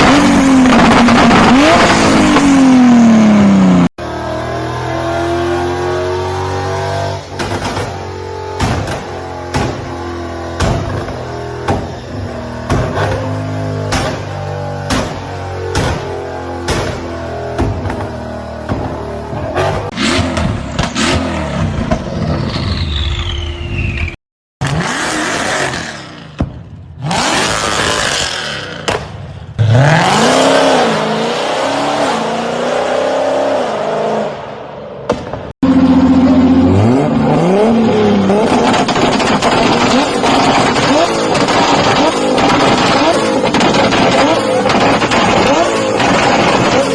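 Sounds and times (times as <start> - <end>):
car engines revving: 0.0 - 22.9, 24.6 - 46.9.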